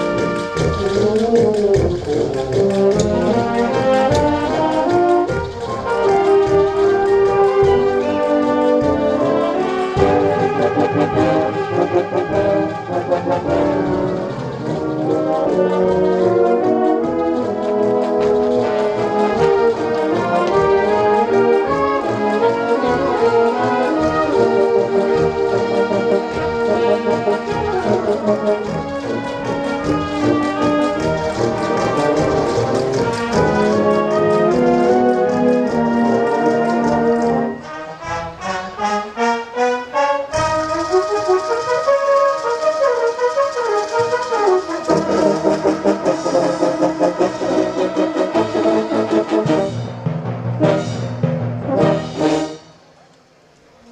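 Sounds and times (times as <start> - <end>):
brass sustained chords: 0.0 - 52.8
wind band playing: 0.0 - 53.9.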